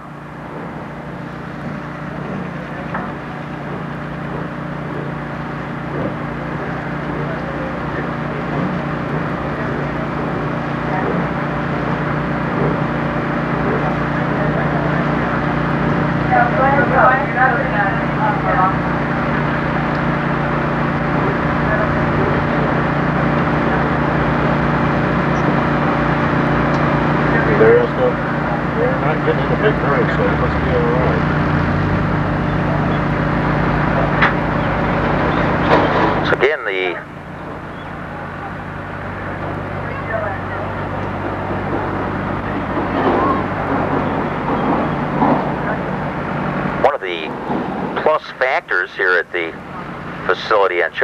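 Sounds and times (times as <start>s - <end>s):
broad rushing noise: 0.0s - 51.0s
engine humming: 0.0s - 51.0s
outdoor noise: 0.0s - 51.0s.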